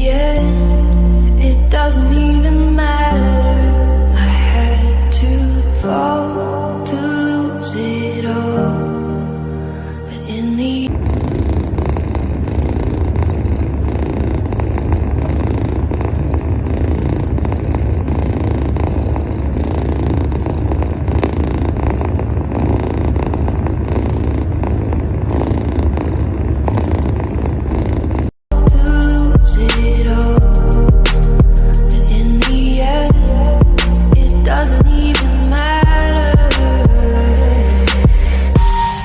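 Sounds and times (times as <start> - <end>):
kitten purring: 0.0 - 8.7, 10.0 - 39.0.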